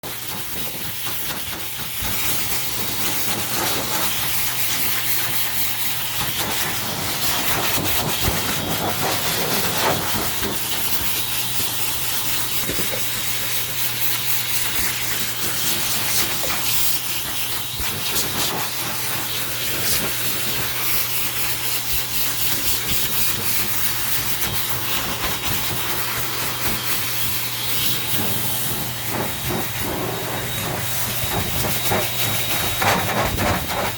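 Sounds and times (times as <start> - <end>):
hair dryer running: 0.7 - 13.6, 14.7 - 33.9.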